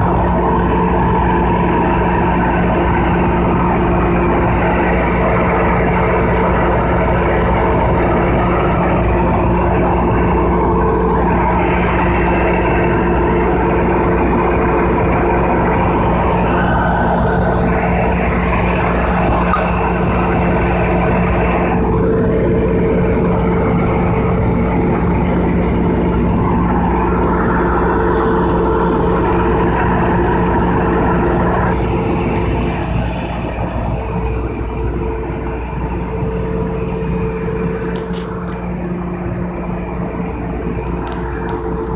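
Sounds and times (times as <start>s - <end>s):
generator humming loudly: 0.0s - 41.9s.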